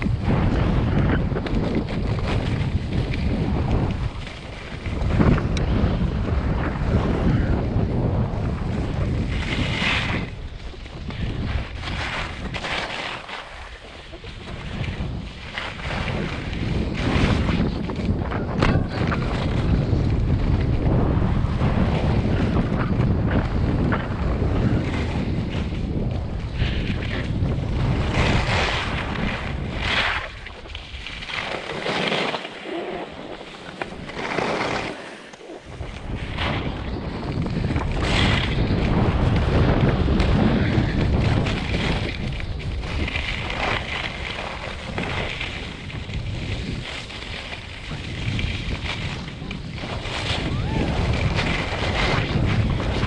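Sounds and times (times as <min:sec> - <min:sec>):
skis swishing on snow: 0:00.0 - 0:53.0
wind buffeting microphone: 0:00.0 - 0:53.0.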